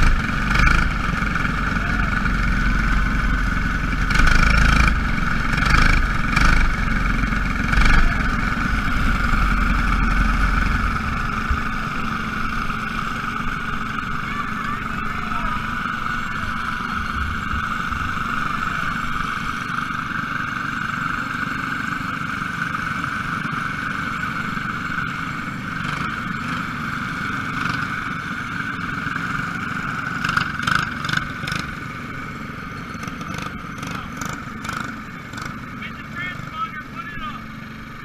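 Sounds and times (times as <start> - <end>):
small race car engines: 0.0 - 38.0.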